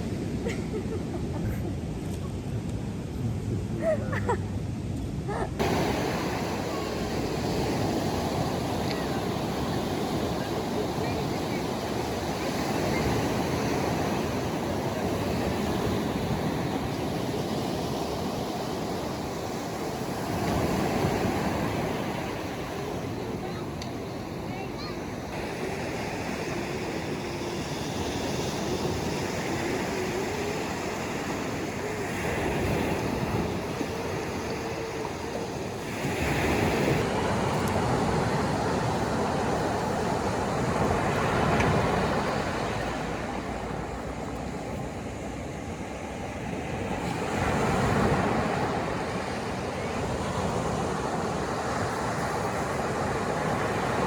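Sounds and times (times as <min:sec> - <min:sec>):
surf washing on beach: 0:00.0 - 0:54.0.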